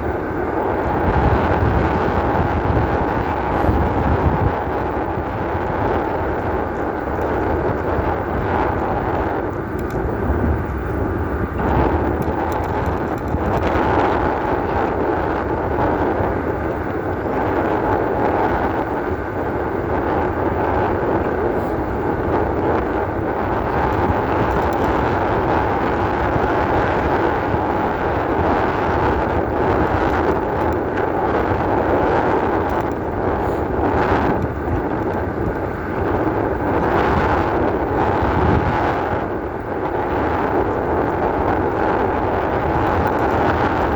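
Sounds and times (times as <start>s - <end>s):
electric bike motor hum: 0.0s - 43.9s
wind rumble: 0.0s - 43.9s.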